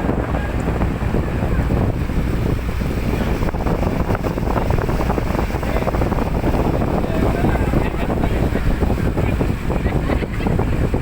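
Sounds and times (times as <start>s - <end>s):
boat engine running: 0.0s - 11.0s
water under boat: 0.0s - 11.0s
wind rushing over microphone: 0.0s - 11.0s.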